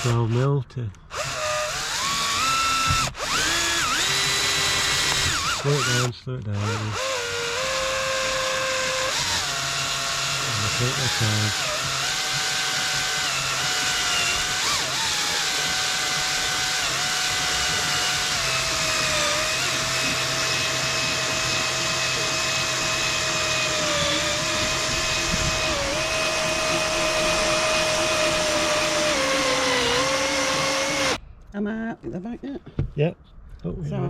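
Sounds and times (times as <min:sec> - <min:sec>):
electric drill boring: 0:00.0 - 0:00.2, 0:01.1 - 0:31.2.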